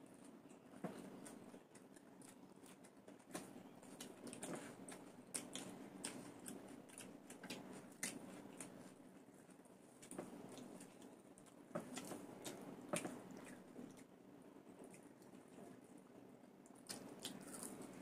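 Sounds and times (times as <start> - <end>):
faint low hum: 0.0 - 18.0
people eating with hands: 0.0 - 18.0.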